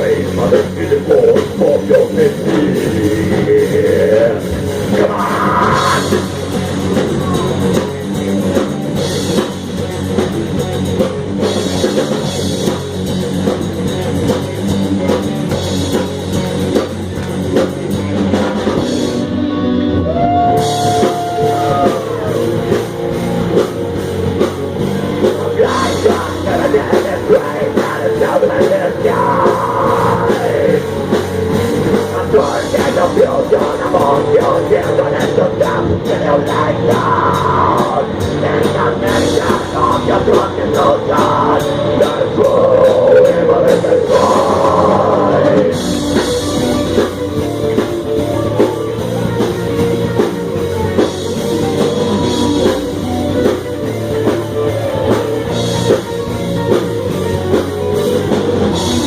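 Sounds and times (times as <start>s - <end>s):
fast dense drumming: 0.0s - 19.3s, 20.1s - 59.0s
distorted electric guitars: 0.0s - 59.0s.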